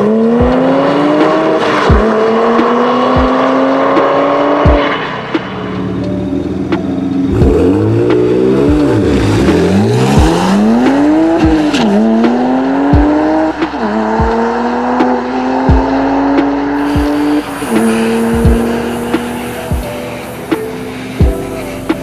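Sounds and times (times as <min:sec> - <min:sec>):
car engine accelerating through gears: 0:00.0 - 0:22.0.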